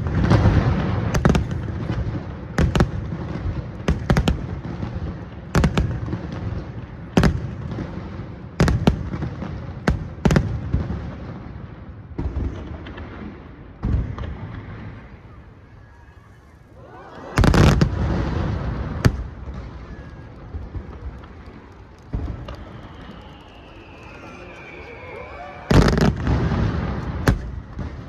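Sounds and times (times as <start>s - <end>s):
fireworks bursting with echoing rumble: 0.0s - 28.0s.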